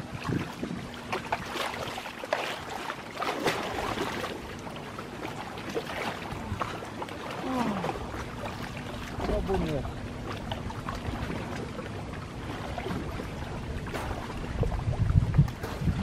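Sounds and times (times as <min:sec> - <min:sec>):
feet splashing in river water: 0:00.0 - 0:16.0.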